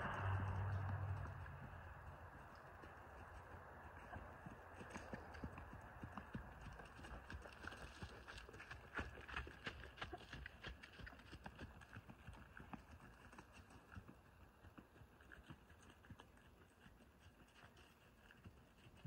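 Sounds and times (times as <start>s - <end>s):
hoofbeats on soft dirt: 0.0s - 19.0s.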